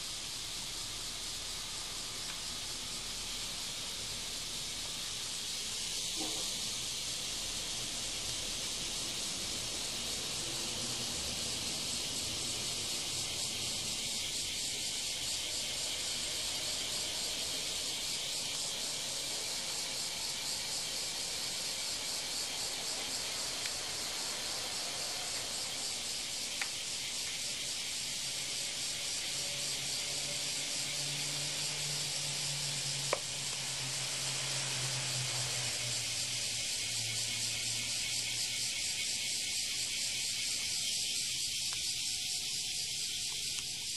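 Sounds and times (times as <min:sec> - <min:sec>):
steady high hiss: 0:00.0 - 0:43.9.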